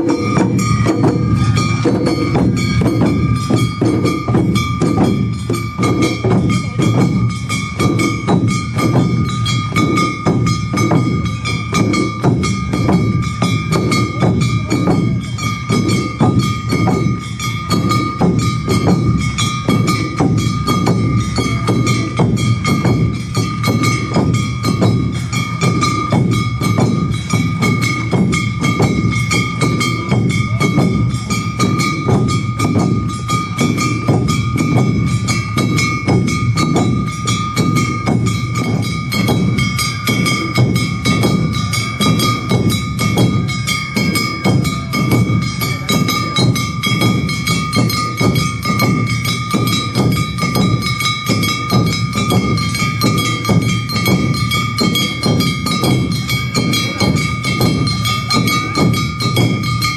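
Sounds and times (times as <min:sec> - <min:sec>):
drums on fast beat: 0:00.0 - 0:59.9
struck gong: 0:00.0 - 0:59.9.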